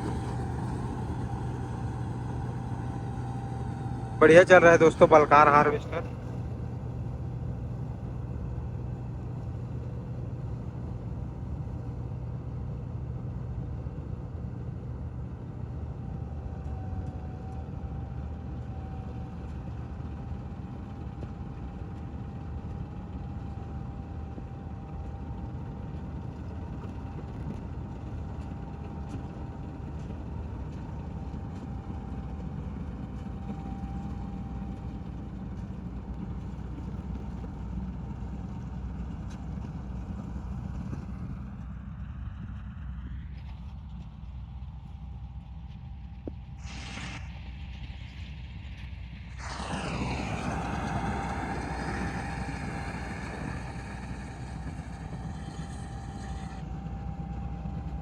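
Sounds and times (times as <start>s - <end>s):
combine harvester engine hum: 0.0s - 58.0s
thin steady whine: 0.0s - 58.0s.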